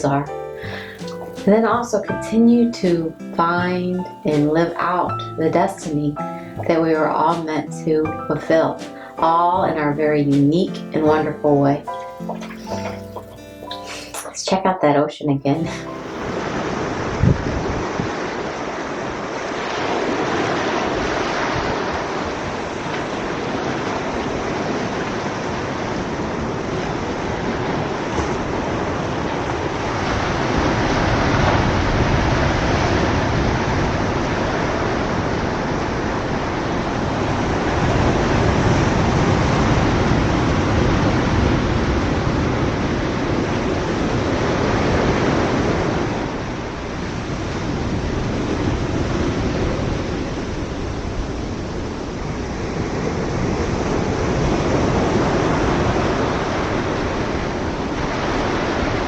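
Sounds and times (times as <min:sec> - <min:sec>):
ocean surf washing onto beach: 0:00.0 - 0:14.2, 0:15.6 - 0:59.0.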